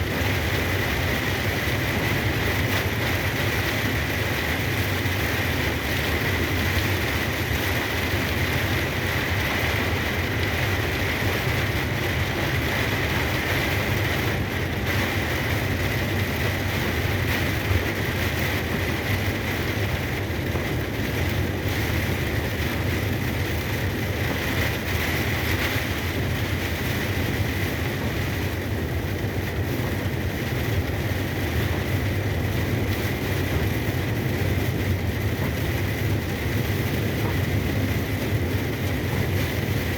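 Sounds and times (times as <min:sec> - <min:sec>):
engine and road noise: 0:00.0 - 0:39.9
rain: 0:00.0 - 0:39.9
tyres hissing on wet road: 0:00.0 - 0:39.9.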